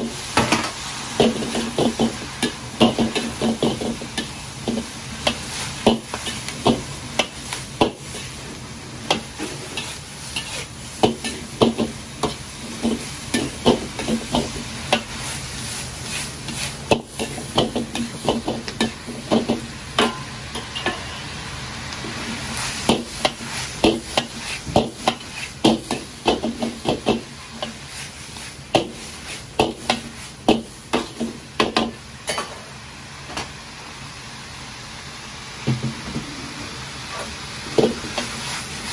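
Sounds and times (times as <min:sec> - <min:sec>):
sizzle of frying: 0:00.0 - 0:38.9.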